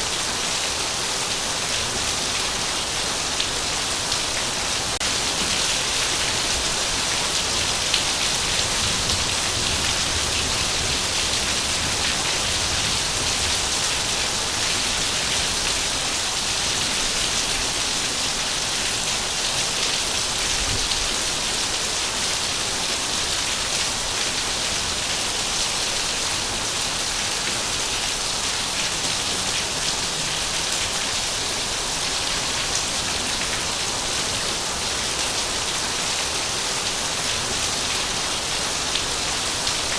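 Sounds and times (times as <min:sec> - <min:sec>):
rain drops: 0:00.0 - 0:39.9.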